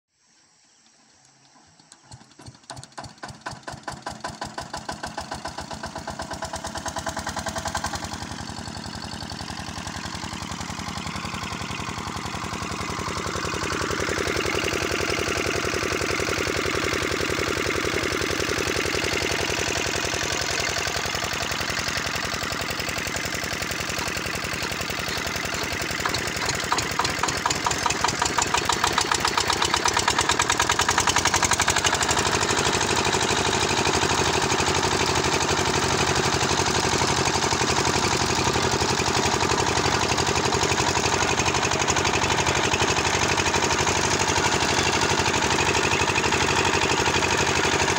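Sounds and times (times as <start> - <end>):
small engine knocking: 1.9 - 47.9.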